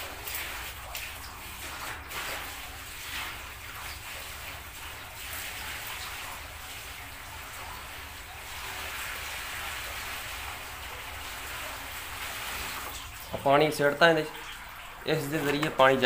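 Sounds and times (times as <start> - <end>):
water pouring into a tank: 0.0 - 16.0.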